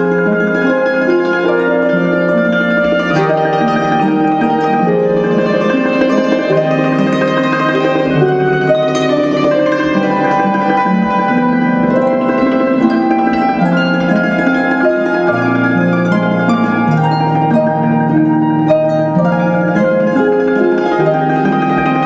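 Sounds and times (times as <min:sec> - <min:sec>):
harp music: 0:00.0 - 0:22.0.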